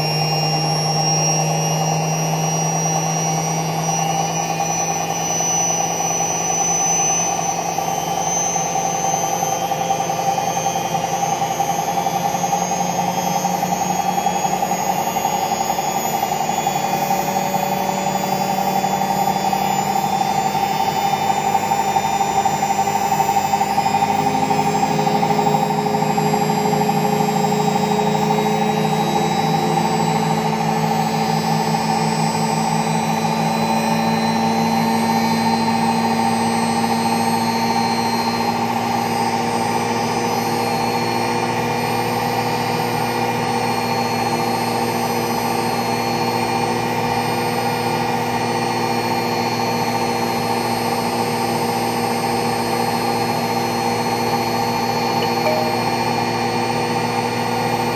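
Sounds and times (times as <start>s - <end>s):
washing machine spinning: 0.0s - 45.5s, 54.9s - 57.7s.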